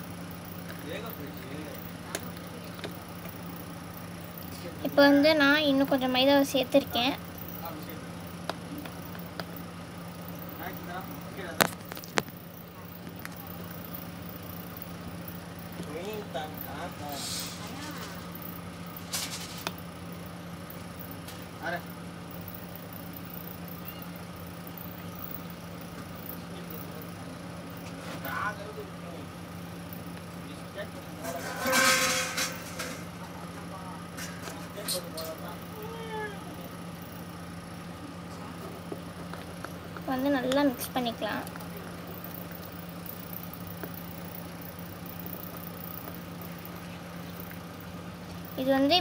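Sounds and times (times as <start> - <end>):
low background hum: 0.0 - 49.0.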